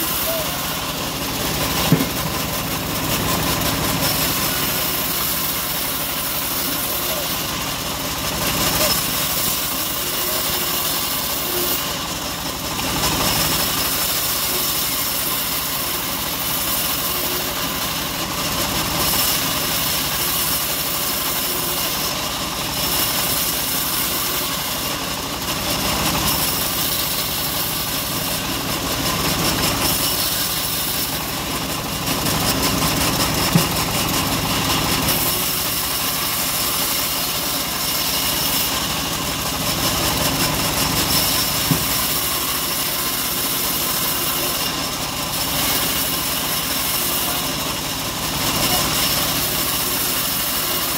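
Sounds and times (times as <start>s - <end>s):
bandsaw mill cutting wood: 0.0s - 50.9s.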